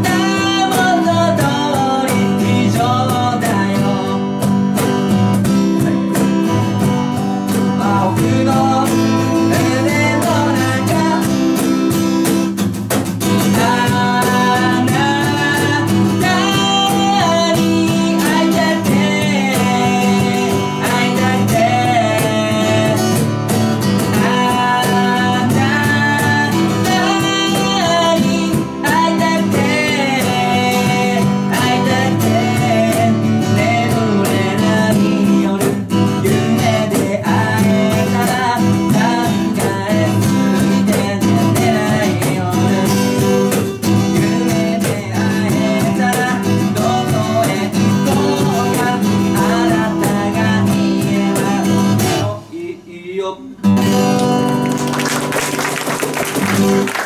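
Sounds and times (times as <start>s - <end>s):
cajon beat: 0.0s - 52.5s, 53.6s - 57.0s
strummed acoustic guitar: 0.0s - 52.8s, 53.4s - 57.0s
man singing: 0.0s - 54.7s.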